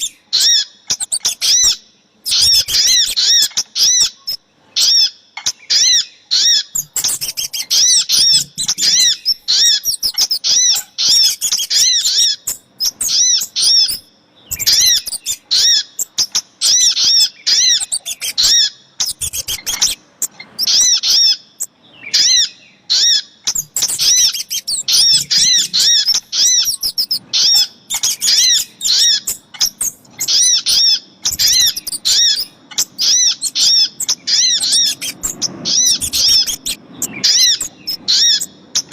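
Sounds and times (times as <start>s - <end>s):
recorded bird calls chirping: 0.0s - 38.9s.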